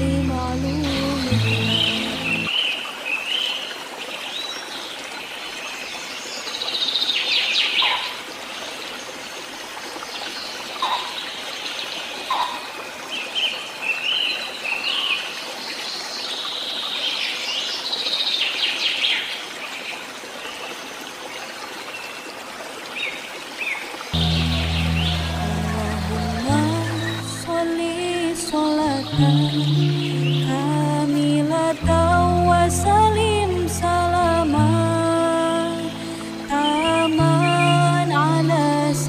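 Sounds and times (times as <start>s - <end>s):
songbirds chirping and warbling: 0.0s - 22.2s, 23.0s - 30.8s, 35.8s - 38.5s
trickling stream: 0.0s - 39.0s.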